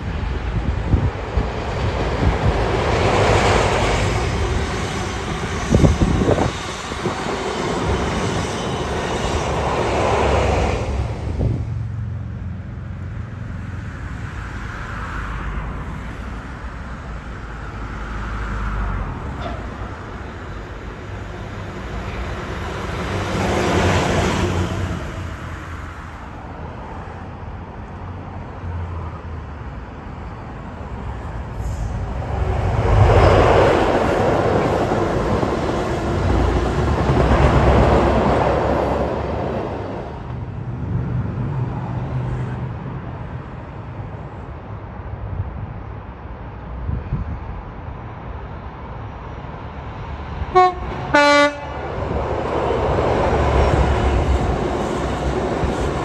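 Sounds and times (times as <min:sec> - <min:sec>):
low traffic rumble: 0:00.0 - 0:56.0
passing traffic: 0:00.0 - 0:56.0.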